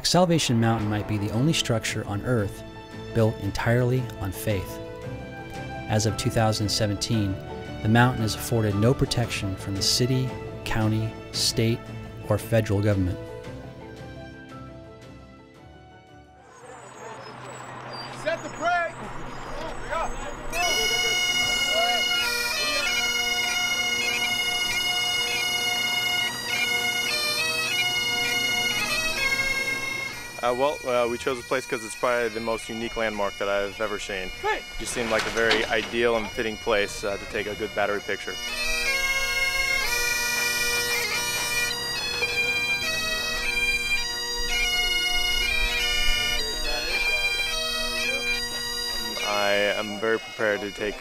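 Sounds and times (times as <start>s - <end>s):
bagpipe melody: 0.0s - 16.6s, 17.2s - 51.0s
bagpipe drone: 0.0s - 51.0s.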